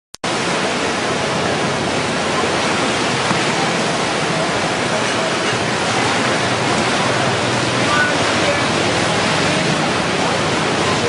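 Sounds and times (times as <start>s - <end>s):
river rushing in flood: 0.2s - 11.0s.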